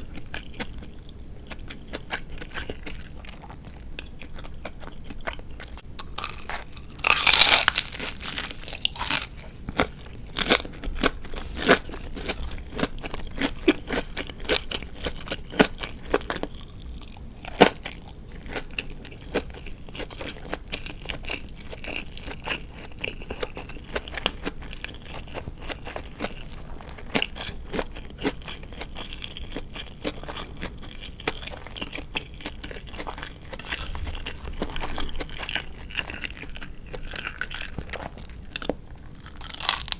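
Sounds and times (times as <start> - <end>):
crunchy chewing of fried chicken: 0.0 - 39.9.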